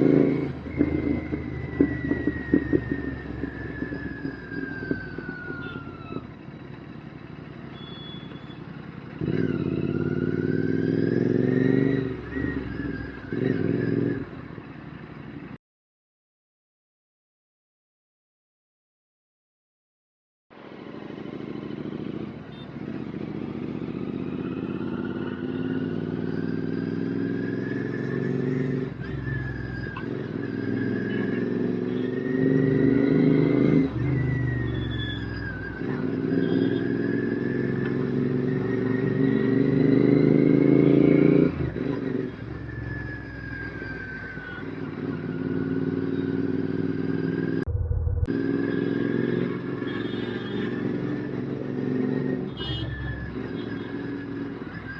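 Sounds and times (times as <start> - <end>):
motorcycle engine revving through gears: 0.0 - 14.6, 20.8 - 54.9.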